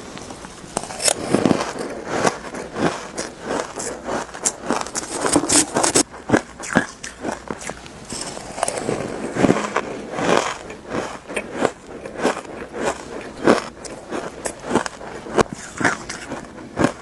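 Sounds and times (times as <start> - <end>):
chewing crunchy shaved ice: 0.8 - 17.0.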